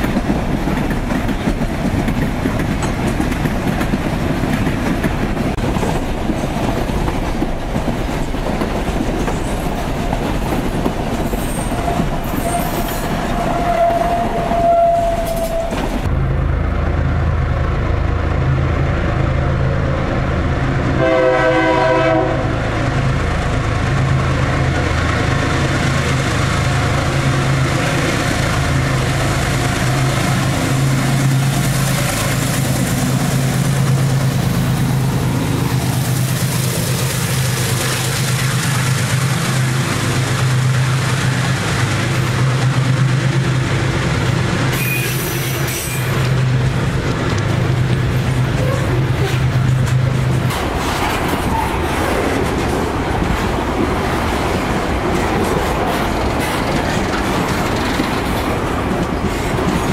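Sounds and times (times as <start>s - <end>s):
wheels rolling on rail: 0.0s - 59.9s
locomotive engine drone: 10.9s - 59.9s.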